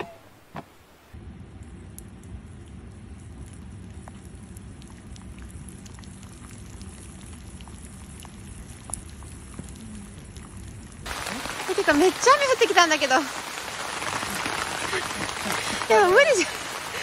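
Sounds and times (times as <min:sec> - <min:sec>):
rain falling into a puddle: 0:01.6 - 0:17.0.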